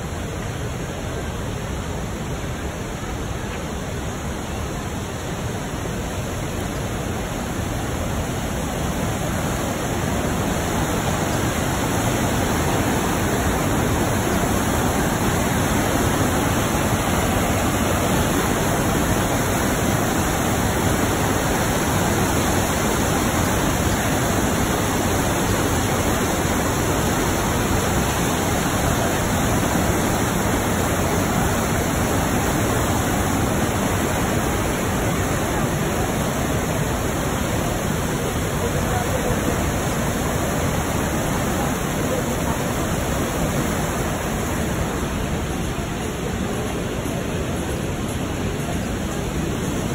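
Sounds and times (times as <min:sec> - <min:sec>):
whitewater pouring over waterfall: 0:00.0 - 0:49.9.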